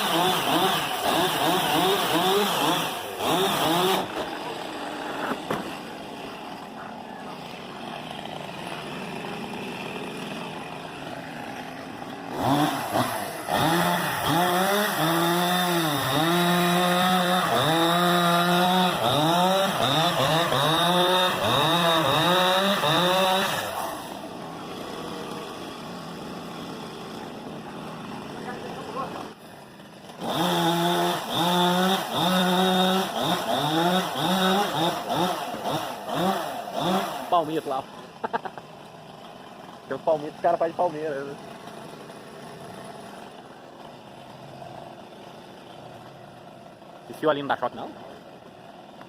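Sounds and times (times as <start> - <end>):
chainsaw engine revving: 0.0 - 49.0.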